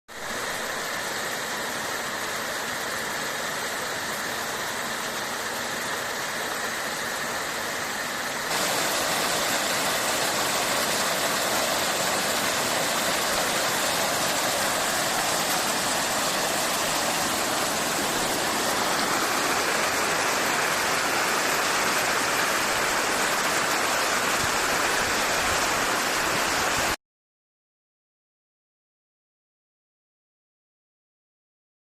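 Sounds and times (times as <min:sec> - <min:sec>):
waterfall roaring: 0:00.2 - 0:27.0.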